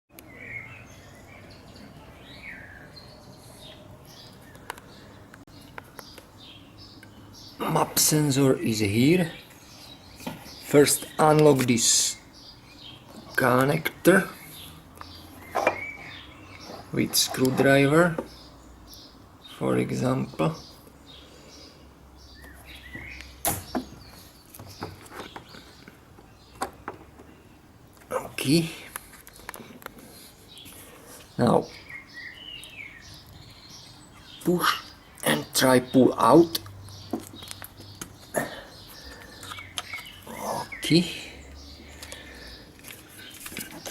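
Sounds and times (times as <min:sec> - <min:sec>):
birds chirping: 0:00.1 - 0:43.9.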